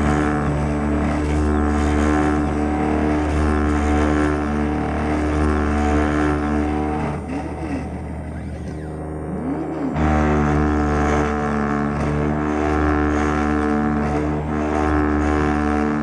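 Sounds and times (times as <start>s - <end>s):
cnc router humming and hissing: 0.0s - 16.0s
short rising and falling whine: 0.0s - 16.0s.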